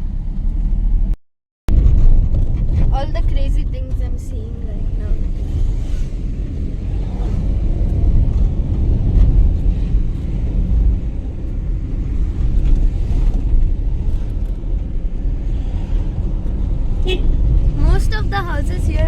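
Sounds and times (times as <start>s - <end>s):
vehicle engine and road noise: 0.0s - 19.0s
wind buffeting microphone: 1.7s - 19.0s.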